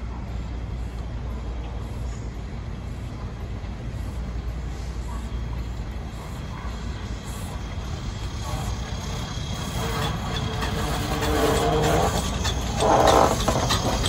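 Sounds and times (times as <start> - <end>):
steam locomotive rumbling: 0.0 - 14.0.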